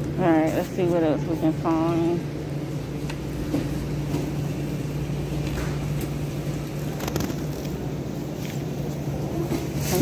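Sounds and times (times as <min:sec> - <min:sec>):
shopping cart wheels rumbling: 0:00.0 - 0:10.0.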